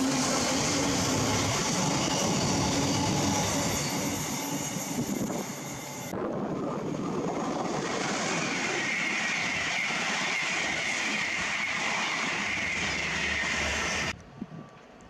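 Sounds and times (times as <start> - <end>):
train passing at speed: 0.0 - 14.2.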